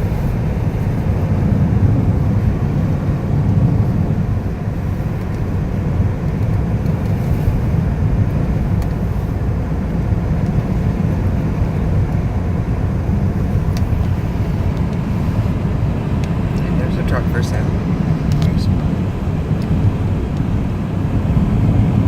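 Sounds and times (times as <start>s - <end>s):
car engine: 0.0s - 22.0s
tyre noise on wet road: 0.0s - 22.0s
wind noise: 0.0s - 22.0s.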